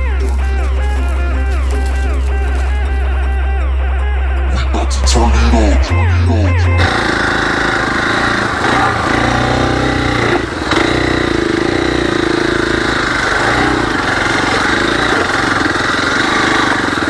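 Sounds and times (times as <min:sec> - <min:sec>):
motorcycle engine running: 0:00.0 - 0:05.3, 0:06.5 - 0:17.0.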